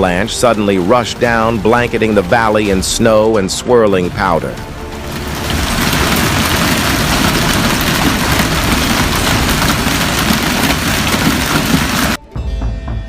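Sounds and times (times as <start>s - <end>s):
snow rushing over car: 0.0s - 3.1s, 4.1s - 12.2s.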